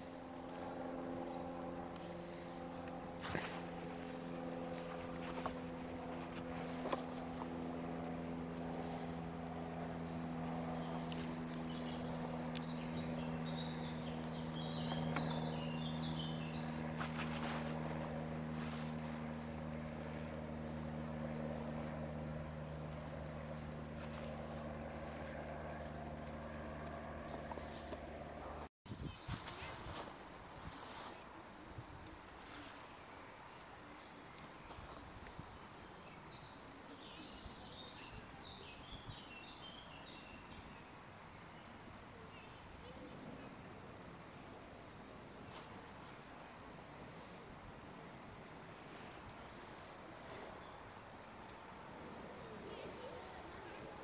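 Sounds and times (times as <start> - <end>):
small birds chirping: 0.0 - 29.7, 31.1 - 45.1, 52.2 - 54.0
steady mechanical hum: 0.0 - 54.0.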